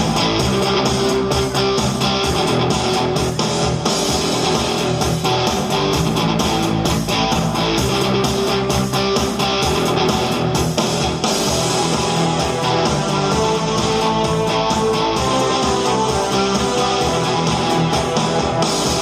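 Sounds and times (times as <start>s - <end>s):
pop music with strummed guitar: 0.0s - 19.0s.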